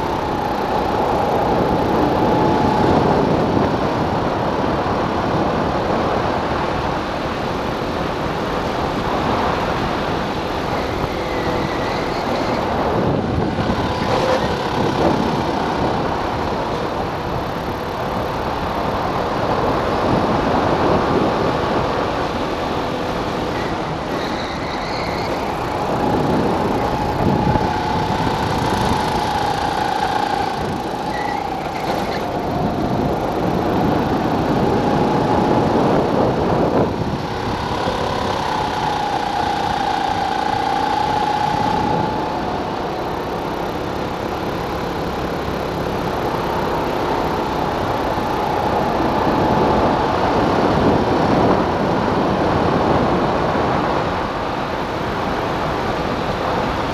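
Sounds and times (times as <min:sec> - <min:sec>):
go-kart engine running: 0:00.0 - 0:56.9
wind and road noise: 0:00.0 - 0:56.9.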